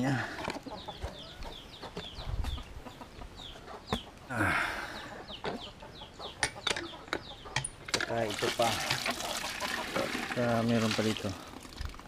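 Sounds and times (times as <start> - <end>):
chickens clucking: 0.0 - 10.8.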